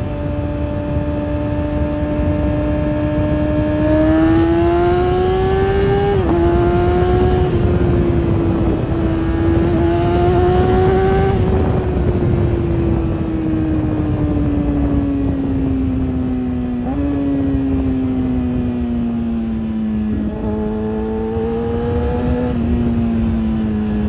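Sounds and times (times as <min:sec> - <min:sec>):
motorcycle engine revving: 0:00.0 - 0:18.7, 0:19.3 - 0:24.0.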